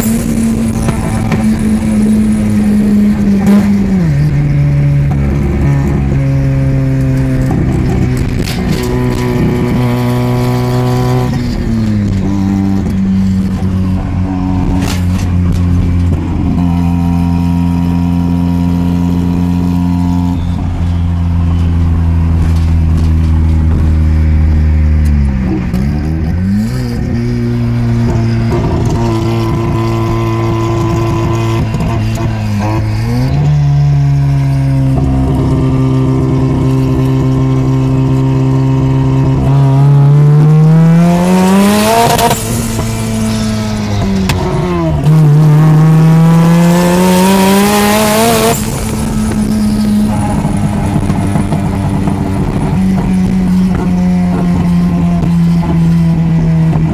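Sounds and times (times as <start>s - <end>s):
rotary engine revving: 0.0s - 56.9s.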